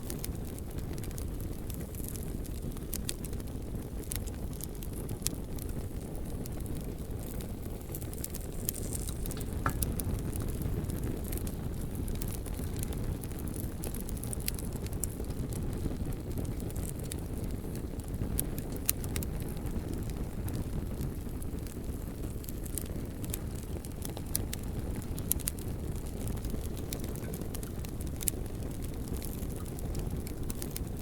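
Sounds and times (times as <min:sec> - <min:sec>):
fire crackling and popping: 0:00.0 - 0:31.0
flames rumbling: 0:00.0 - 0:31.0.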